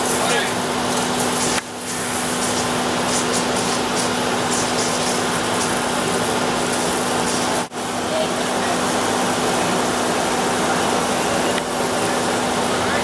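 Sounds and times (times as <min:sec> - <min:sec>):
water spray hissing: 0:00.0 - 0:12.8
jet of flame: 0:00.0 - 0:13.0.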